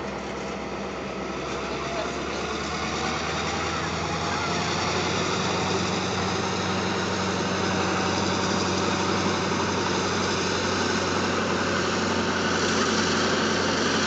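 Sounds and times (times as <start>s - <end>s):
diesel locomotive hum: 0.0s - 14.0s
train wheels on rails: 0.0s - 14.0s.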